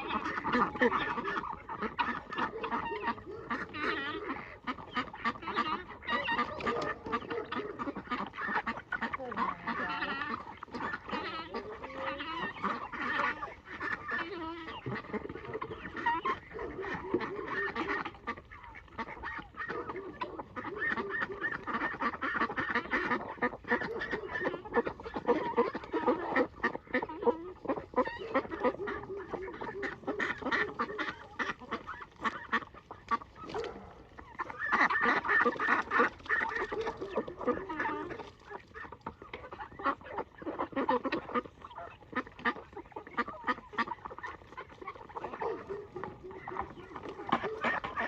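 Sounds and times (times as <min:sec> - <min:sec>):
poultry calling: 0:00.0 - 0:48.0.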